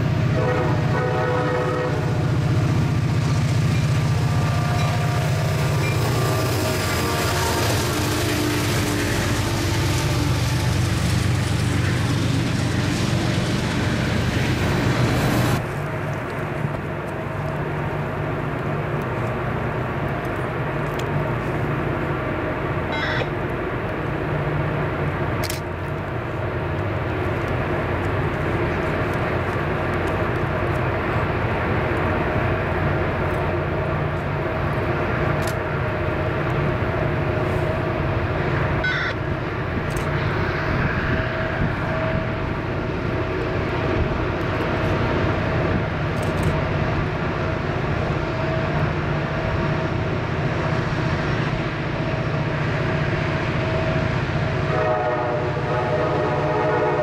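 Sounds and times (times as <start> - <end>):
diesel locomotive drone: 0.0 - 57.0
freight cars rolling on rails: 0.0 - 57.0.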